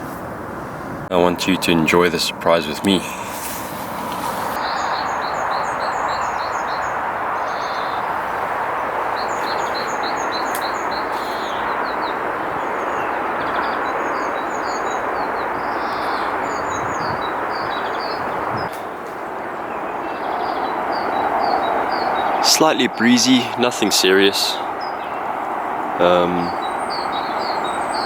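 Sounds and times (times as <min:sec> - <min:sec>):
wind rushing: 0:00.0 - 0:28.0
songbird chirping: 0:01.0 - 0:28.0.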